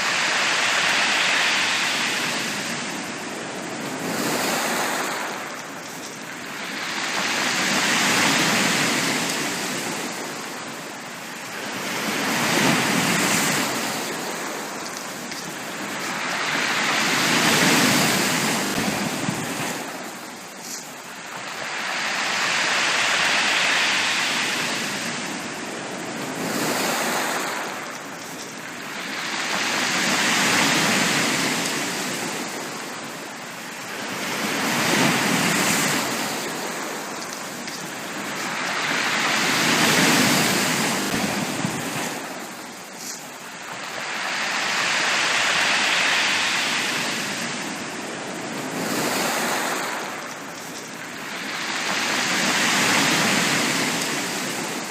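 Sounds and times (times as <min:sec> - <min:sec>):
sea waves breaking on a beach: 0:00.0 - 0:54.9.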